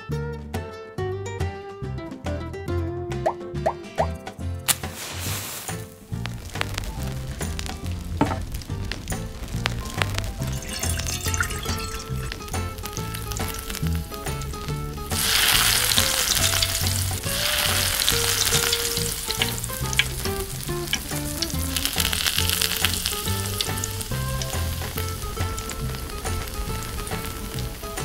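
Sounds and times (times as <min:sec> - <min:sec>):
doughnuts sizzling in hot oil: 0:04.7 - 0:28.0
oil crackles: 0:04.7 - 0:28.0.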